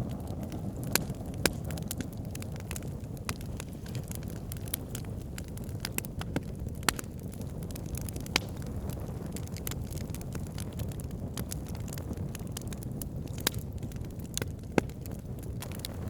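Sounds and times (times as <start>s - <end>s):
burning logs crackling and popping: 0.0s - 16.0s
low rush of flames: 0.0s - 16.0s.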